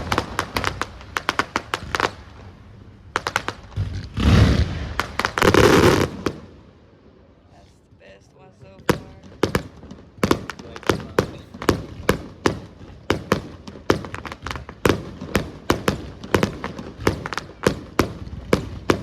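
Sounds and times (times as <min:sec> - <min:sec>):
fireworks bursting with sharp bangs: 0:00.0 - 0:19.0.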